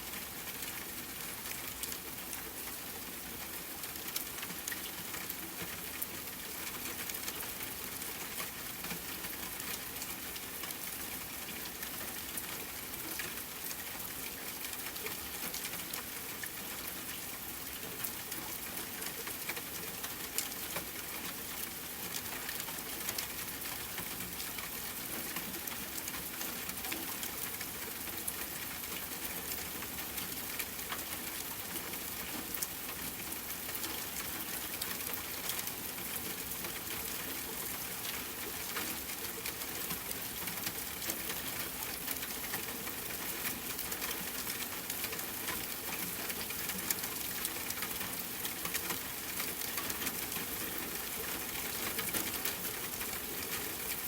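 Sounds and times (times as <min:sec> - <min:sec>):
rain falling on a tent: 0:00.0 - 0:54.0.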